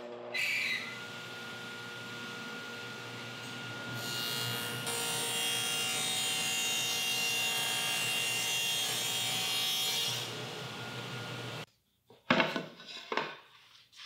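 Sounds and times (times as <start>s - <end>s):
table saw cutting wood: 0.0s - 11.7s.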